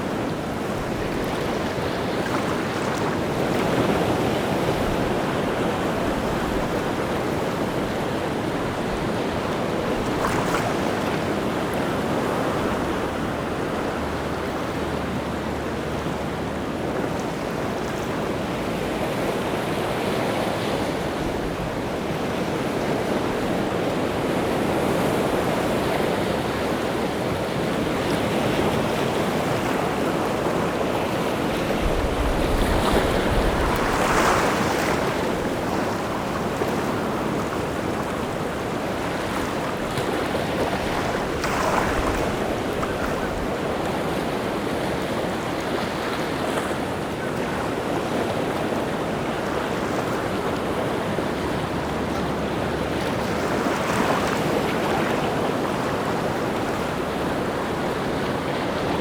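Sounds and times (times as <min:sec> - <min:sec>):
sea surf on rocky shore: 0:00.0 - 0:59.0.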